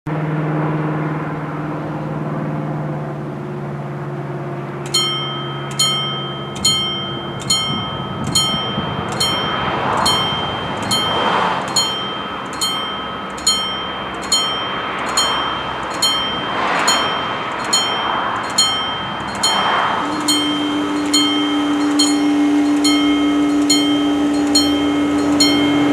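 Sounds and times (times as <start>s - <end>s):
level-crossing warning bell ringing: 4.1s - 25.9s.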